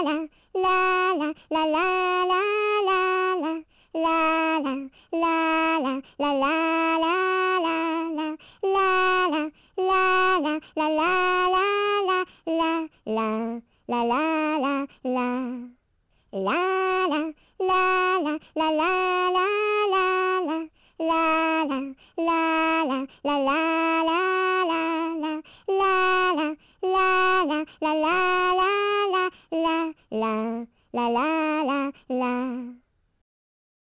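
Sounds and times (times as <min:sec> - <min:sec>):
person singing unaccompanied: 0:00.0 - 0:32.8.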